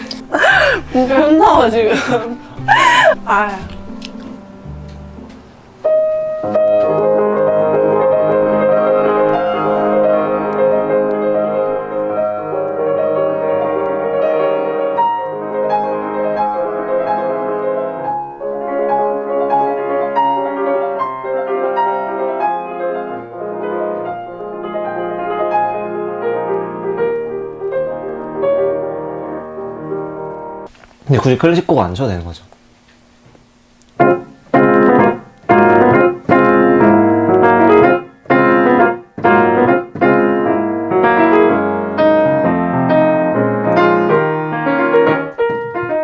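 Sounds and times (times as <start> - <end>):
solo piano piece: 0.0 - 30.7, 34.0 - 46.0.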